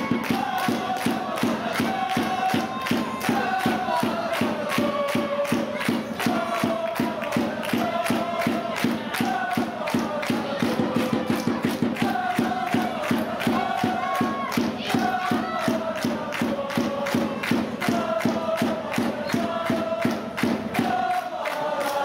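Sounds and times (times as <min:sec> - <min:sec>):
steady drum beat: 0:00.0 - 0:21.1
supporters chanting and singing: 0:00.0 - 0:22.0.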